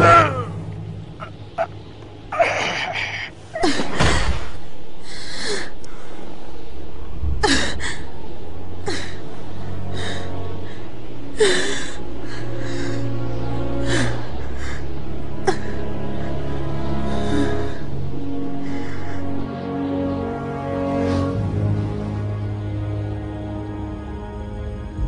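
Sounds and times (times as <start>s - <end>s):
low steady drone: 0.0s - 25.0s.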